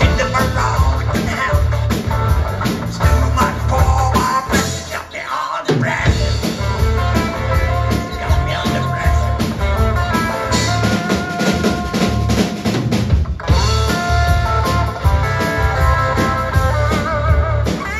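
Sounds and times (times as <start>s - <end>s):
bass guitar: 0.0s - 17.9s
drum kit: 0.0s - 17.9s
electric guitar: 0.0s - 17.9s.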